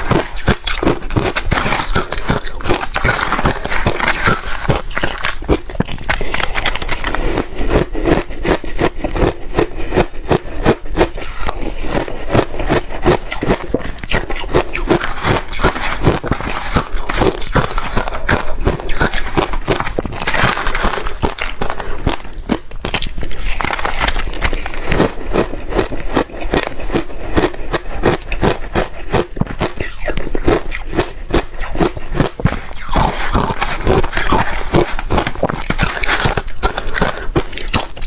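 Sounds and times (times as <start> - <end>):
ice being chewed: 0.0 - 38.0.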